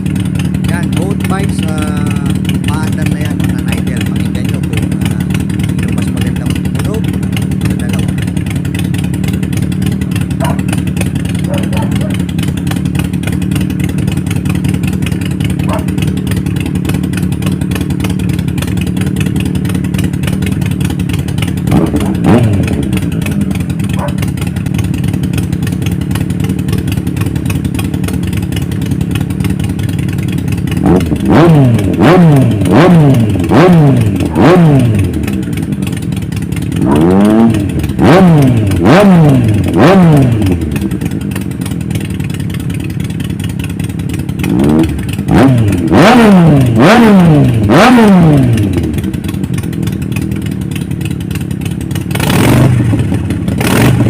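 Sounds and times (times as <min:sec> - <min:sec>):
motorcycle throttle blips: 0:00.0 - 0:54.0
motorcycles idling: 0:00.0 - 0:54.0.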